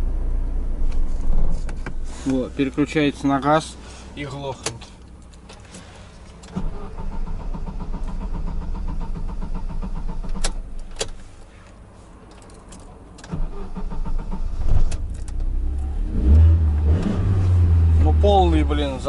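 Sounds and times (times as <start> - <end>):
van engine starting and running: 0.0 - 19.0.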